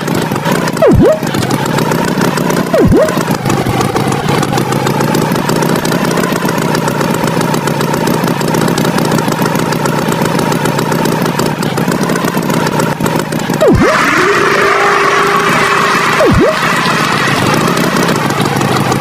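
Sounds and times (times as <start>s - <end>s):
cartoon tractor engine: 0.0s - 19.0s.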